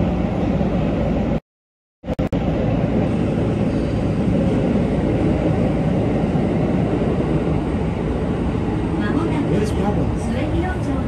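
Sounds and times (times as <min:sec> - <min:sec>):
train carriage rumble: 0:00.0 - 0:01.4, 0:02.1 - 0:11.0.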